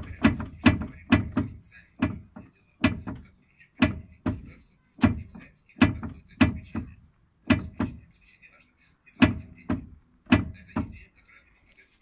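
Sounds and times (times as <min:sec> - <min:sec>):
metallic knocks from rear axle: 0:00.0 - 0:08.1, 0:09.2 - 0:11.1.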